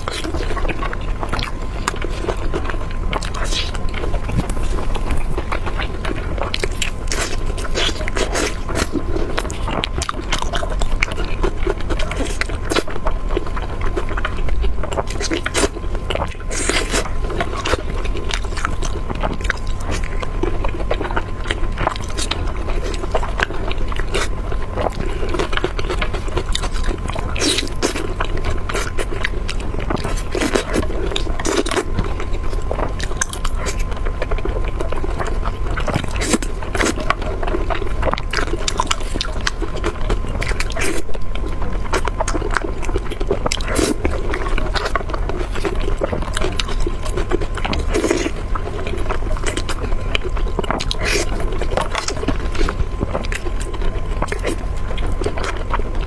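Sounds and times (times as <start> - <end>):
person chewing food: 0.0 - 56.0
steady low hum: 0.0 - 56.0.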